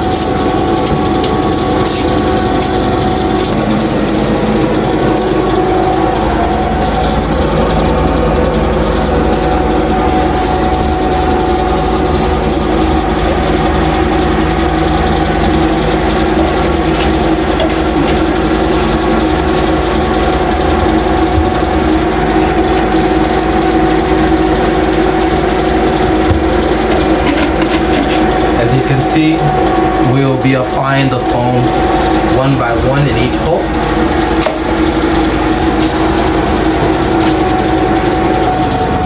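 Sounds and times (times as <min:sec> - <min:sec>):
motor humming and whining: 0:00.0 - 0:39.0.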